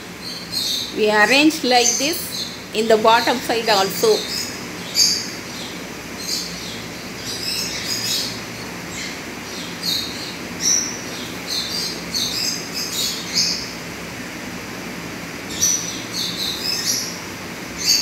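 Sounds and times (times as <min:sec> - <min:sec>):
small birds chirping: 0:00.0 - 0:14.1, 0:15.3 - 0:18.0.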